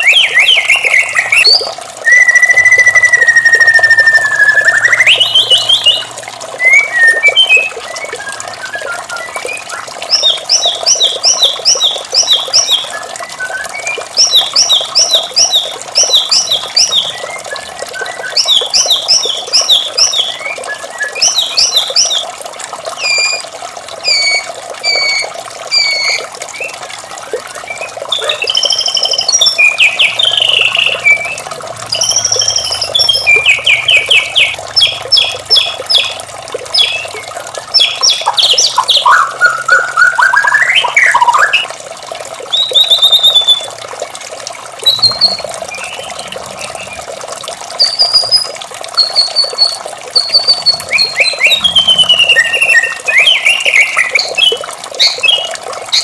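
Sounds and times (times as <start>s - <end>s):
bird singing and whistling: 0.0s - 22.2s, 23.0s - 23.4s, 24.0s - 26.8s, 27.5s - 41.7s, 42.5s - 43.7s, 44.8s - 47.0s, 47.8s - 56.0s
running water: 0.0s - 56.0s.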